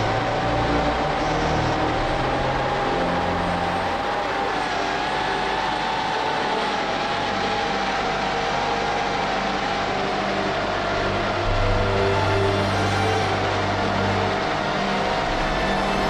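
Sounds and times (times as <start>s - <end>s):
drone motors whining: 0.0s - 16.0s
faint background music: 0.0s - 16.0s.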